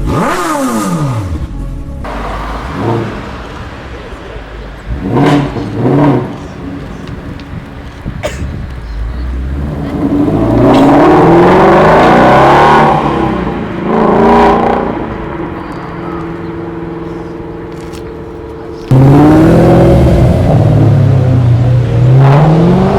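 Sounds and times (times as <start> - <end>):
car engine revving: 0.0 - 8.0, 8.6 - 22.9.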